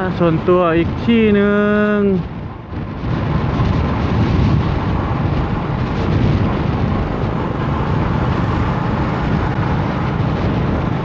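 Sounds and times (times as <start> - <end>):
vehicle moving on road: 0.0 - 11.0
wind rushing over microphone: 0.0 - 11.0.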